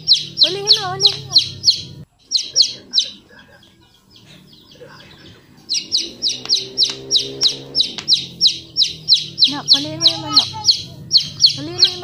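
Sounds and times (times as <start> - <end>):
small bird chirping rapidly: 0.0 - 12.0.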